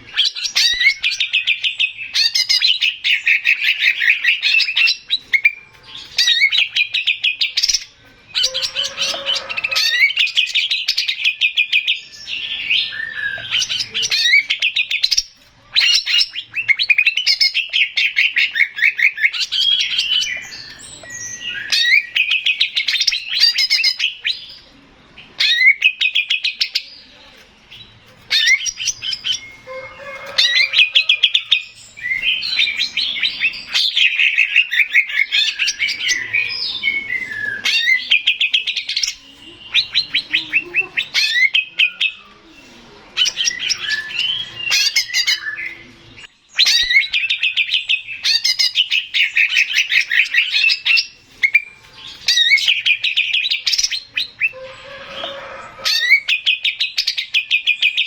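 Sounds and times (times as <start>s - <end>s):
bird singing trills: 0.0s - 58.0s.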